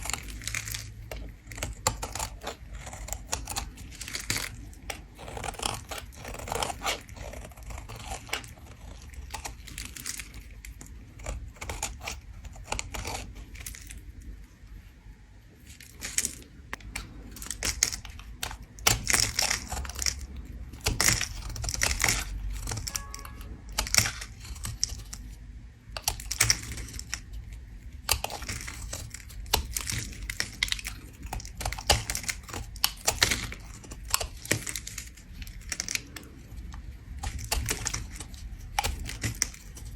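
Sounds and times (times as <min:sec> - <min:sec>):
soap being scraped: 0:00.0 - 0:14.4, 0:15.5 - 0:39.9.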